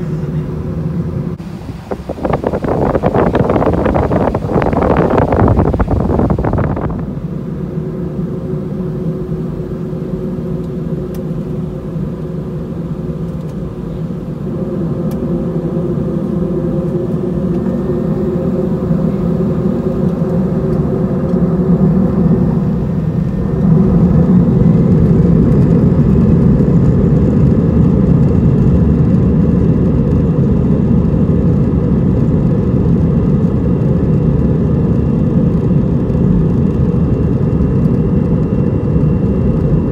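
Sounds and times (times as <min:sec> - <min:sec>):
jet engines low hum: 0:00.0 - 0:39.9.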